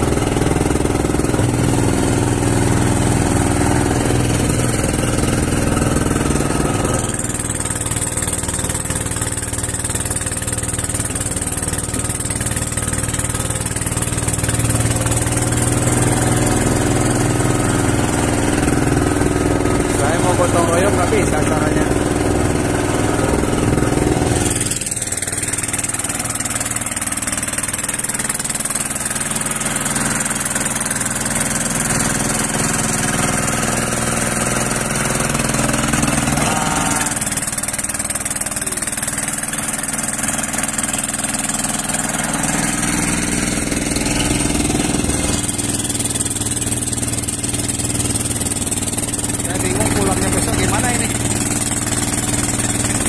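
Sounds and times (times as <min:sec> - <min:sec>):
diesel boat engine running: 0:00.0 - 0:53.0.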